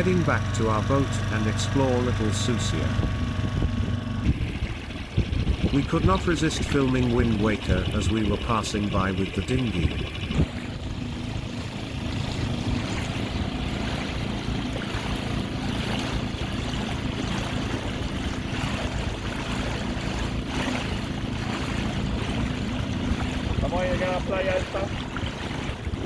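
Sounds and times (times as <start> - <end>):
outboard motor running: 0.0 - 26.0
water rushing past hull: 0.0 - 26.0
wind on microphone: 2.2 - 26.0.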